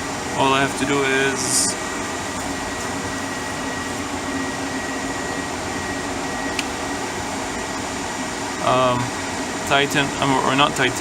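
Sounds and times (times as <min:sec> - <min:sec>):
cooling fans rushing: 0:00.0 - 0:11.0
thin steady whine: 0:00.0 - 0:11.0.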